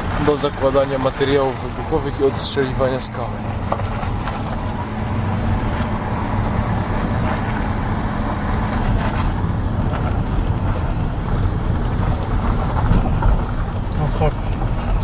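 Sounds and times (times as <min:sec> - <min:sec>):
car engine hum: 0:00.0 - 0:15.0
road and tyre noise: 0:00.0 - 0:15.0.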